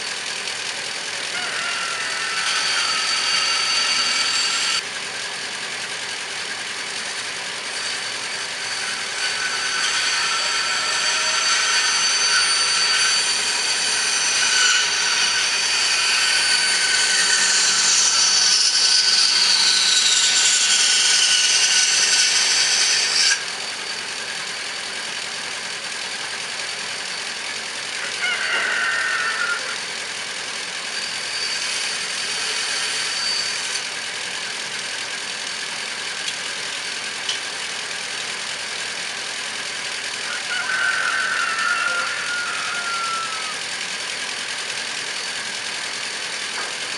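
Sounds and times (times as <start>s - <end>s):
power tool whining on wood: 0.0s - 46.9s.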